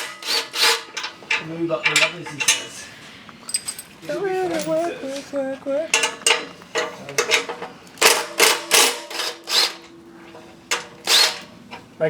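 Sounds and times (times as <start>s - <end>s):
hand tools clanking on metal: 0.0s - 12.0s.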